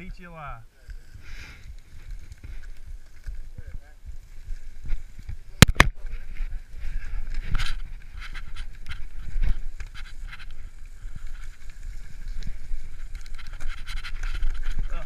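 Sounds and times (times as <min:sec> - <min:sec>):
mountain bike rumbling and rattling: 0:01.1 - 0:15.0.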